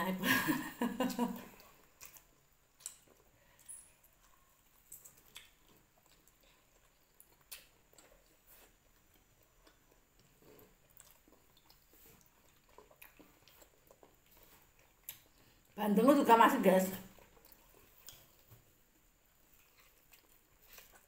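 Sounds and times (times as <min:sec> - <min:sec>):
faint chewing: 0:01.4 - 0:15.8, 0:17.0 - 0:21.0.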